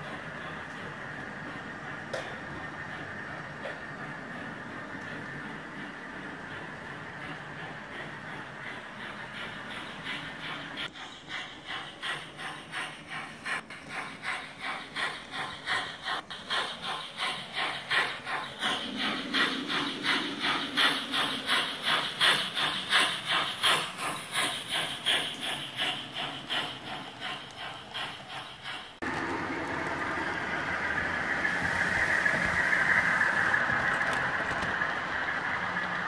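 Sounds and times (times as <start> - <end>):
model steam locomotive chuffing: 0.0 - 36.0.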